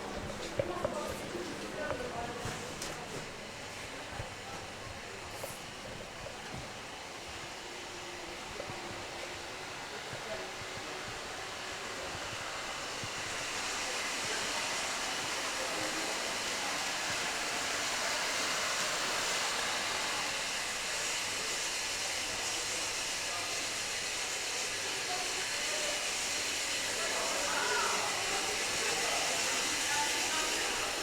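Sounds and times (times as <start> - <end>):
steady hissing noise: 0.0 - 31.0.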